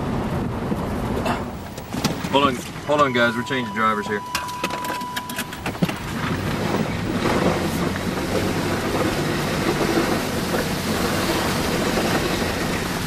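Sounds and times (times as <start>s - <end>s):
low engine hum: 0.0s - 13.0s
tyre and road noise: 0.0s - 13.0s.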